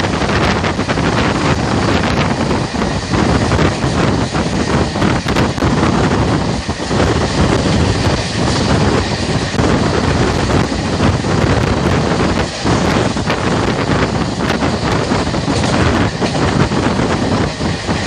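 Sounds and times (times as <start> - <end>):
train wheels on track: 0.0 - 18.0
wind buffeting microphone: 0.0 - 18.0.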